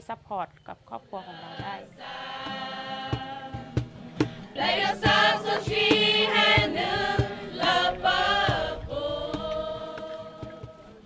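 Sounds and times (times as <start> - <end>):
choir singing: 1.2 - 11.0
regular beat: 1.4 - 11.0.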